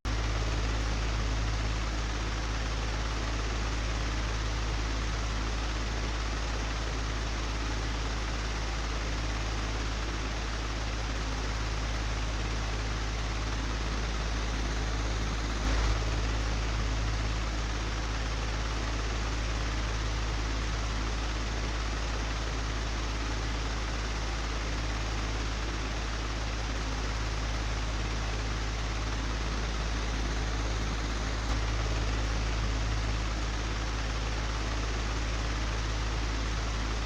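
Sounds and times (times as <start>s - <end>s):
electric fan running: 0.1s - 37.0s.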